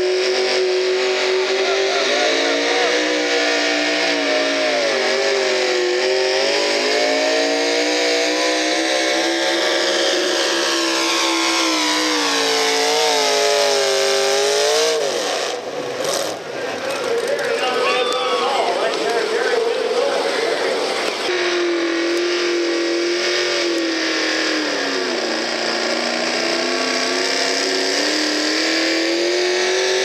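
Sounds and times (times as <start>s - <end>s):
tractor engine at high revs: 0.0s - 17.8s, 18.4s - 30.0s.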